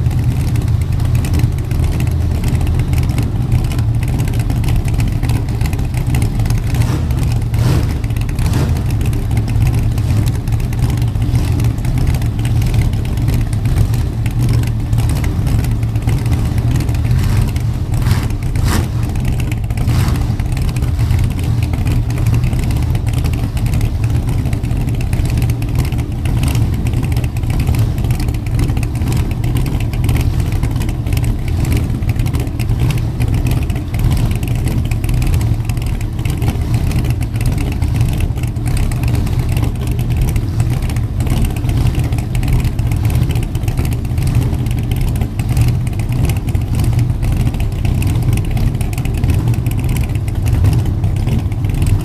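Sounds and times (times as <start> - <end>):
engine droning: 0.0 - 52.0.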